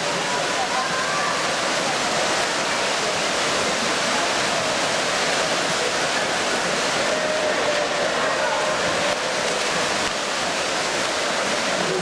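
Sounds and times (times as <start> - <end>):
spectators cheering and shouting: 0.0 - 12.0
swimmers splashing: 0.0 - 12.0.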